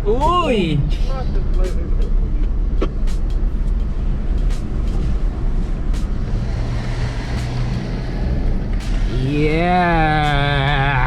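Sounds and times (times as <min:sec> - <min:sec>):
engine and drivetrain rumble: 0:00.0 - 0:11.0.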